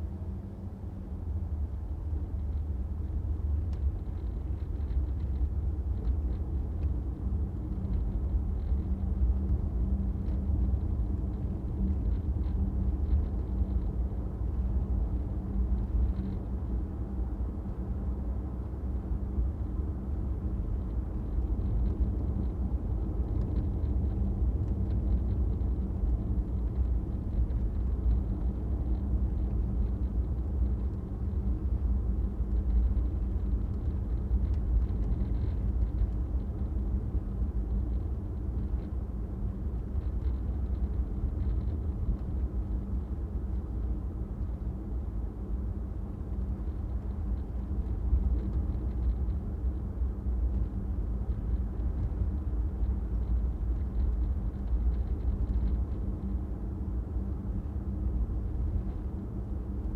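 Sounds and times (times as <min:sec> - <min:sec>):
car engine and road rumble: 0:00.0 - 0:59.9
faint steady hum: 0:00.0 - 0:59.9.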